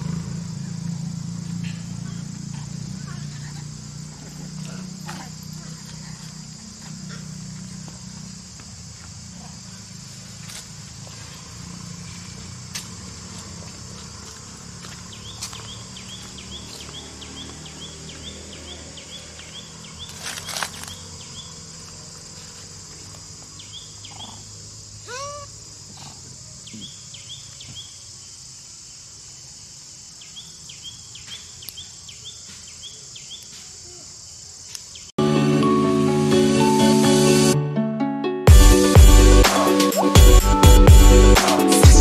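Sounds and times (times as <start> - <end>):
insect chorus high-pitched drone: 0.0 - 35.1
short repeated insect chirps: 0.2 - 35.1.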